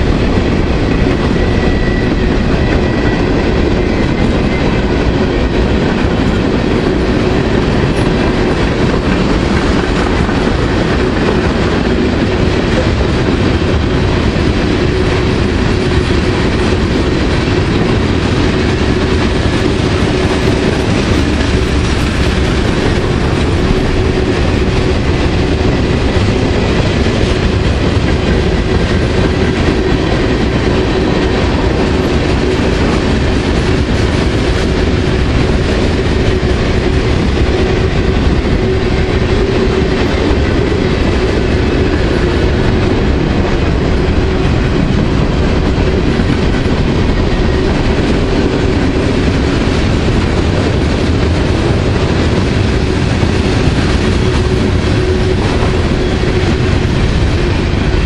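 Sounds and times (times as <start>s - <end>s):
freight train clacking over rails: 0.0s - 58.0s.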